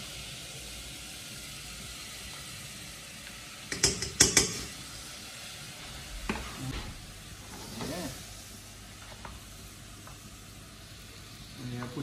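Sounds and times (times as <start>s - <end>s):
pots boiling hiss: 0.0s - 12.0s.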